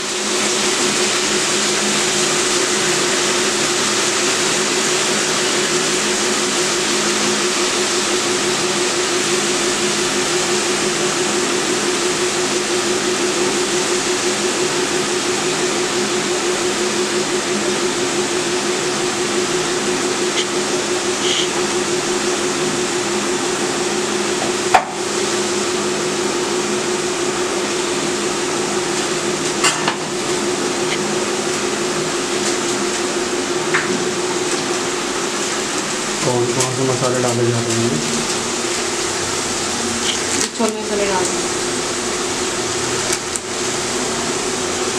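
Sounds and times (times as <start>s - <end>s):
motor fan humming: 0.0s - 44.9s.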